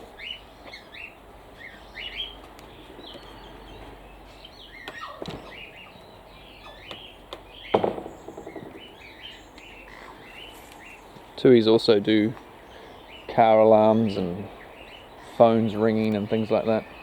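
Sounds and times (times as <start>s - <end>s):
birds chirping: 0.0s - 17.0s
loud bird calls: 0.0s - 17.0s.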